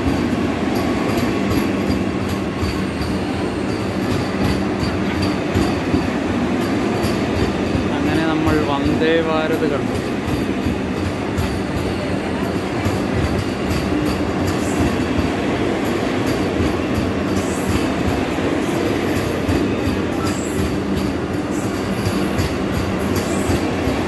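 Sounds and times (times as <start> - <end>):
train coaches rumbling: 0.0 - 24.0.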